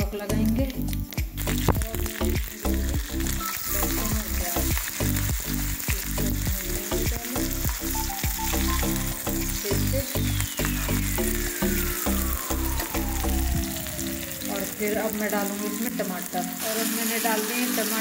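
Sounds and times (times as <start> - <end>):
garlic and onion sizzling in oil: 0.0 - 18.0.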